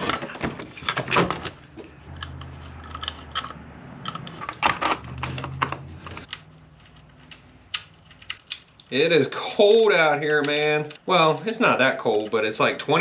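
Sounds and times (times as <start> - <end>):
plastic and metal parts clicking: 0.0 - 11.0.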